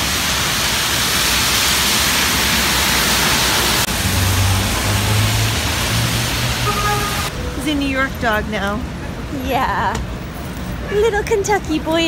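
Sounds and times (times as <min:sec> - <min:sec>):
low traffic engine hum: 0:00.0 - 0:11.2
rain and traffic hiss: 0:00.0 - 0:12.0.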